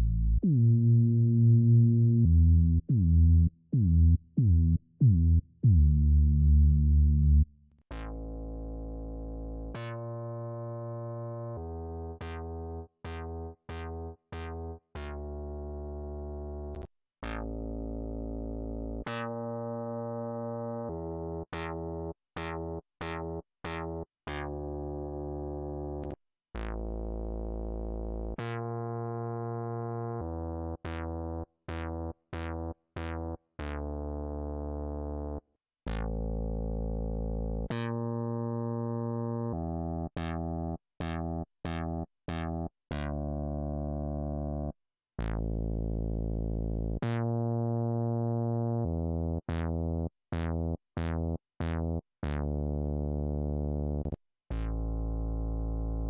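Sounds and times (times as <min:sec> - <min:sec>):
synthesizer bass notes: 0:00.0 - 0:44.4, 0:45.2 - 0:48.8, 0:50.4 - 0:56.0.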